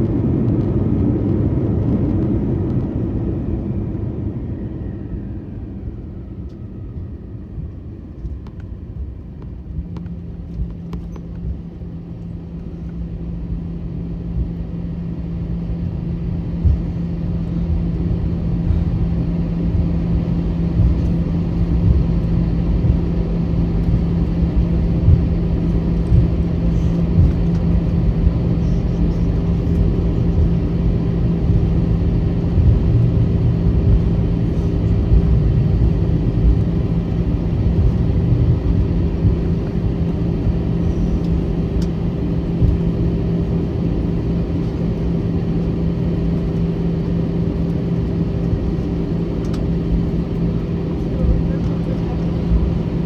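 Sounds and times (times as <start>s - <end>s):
jet engines humming: 0.0s - 53.0s.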